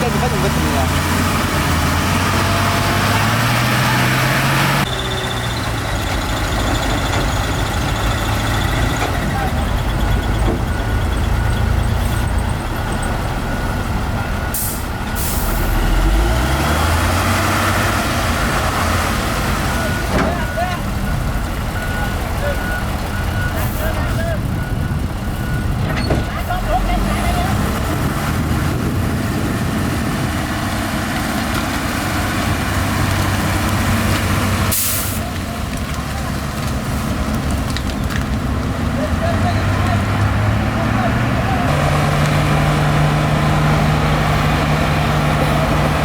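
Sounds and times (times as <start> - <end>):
diesel truck engine revving: 0.0 - 46.0.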